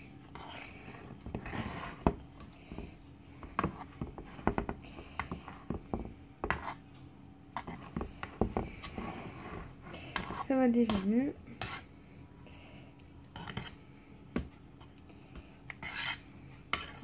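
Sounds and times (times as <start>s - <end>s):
knife clicking and scraping batter: 0.2s - 11.9s, 13.2s - 17.0s.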